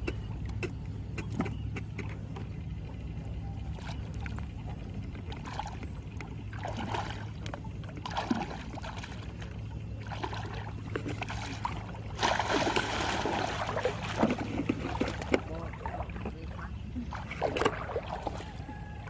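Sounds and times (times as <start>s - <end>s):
steady low hum: 0.0s - 19.0s
water splashing and sloshing: 0.0s - 19.0s.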